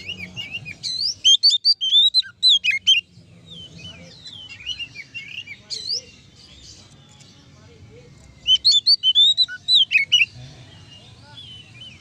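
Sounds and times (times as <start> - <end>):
bird singing whistled notes: 0.0 - 7.2, 8.4 - 12.0.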